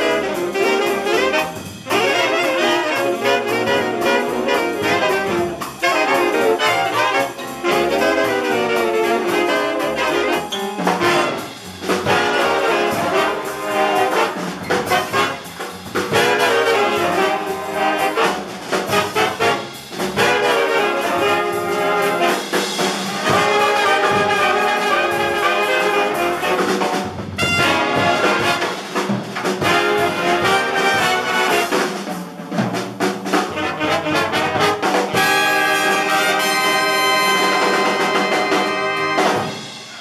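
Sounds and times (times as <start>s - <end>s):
jazz big band playing: 0.0s - 40.0s.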